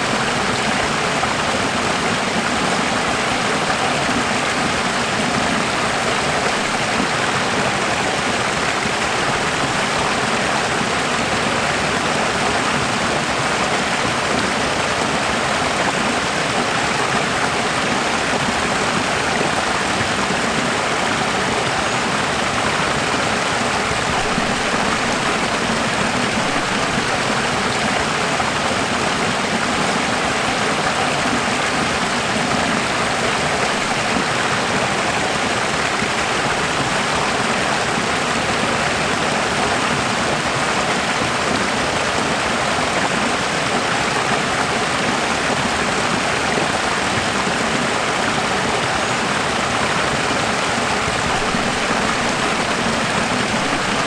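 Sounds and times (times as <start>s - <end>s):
running water flowing: 0.0s - 54.0s.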